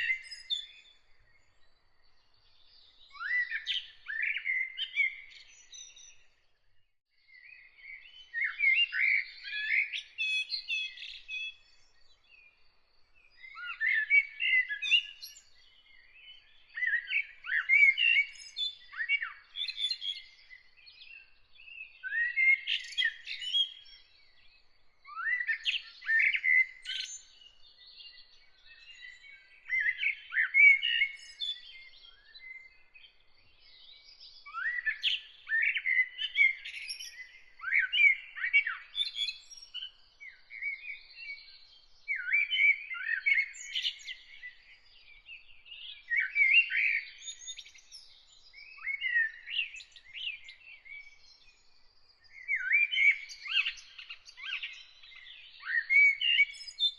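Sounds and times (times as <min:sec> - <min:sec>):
songbirds chirping: 0:00.0 - 0:56.9.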